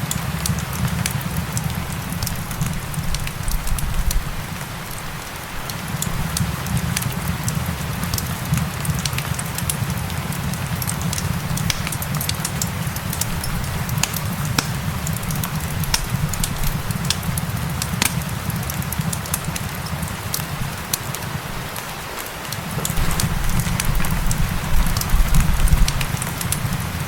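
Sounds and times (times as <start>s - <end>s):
gentle rain hiss: 0.0s - 27.0s
wood fire crackling and popping: 0.0s - 27.0s.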